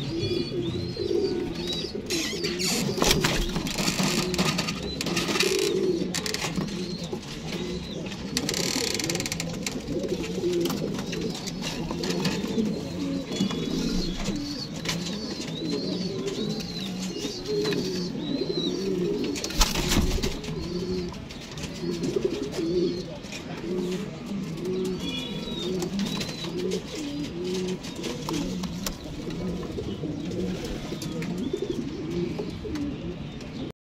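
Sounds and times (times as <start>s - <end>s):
pigeons cooing: 0.0s - 33.7s.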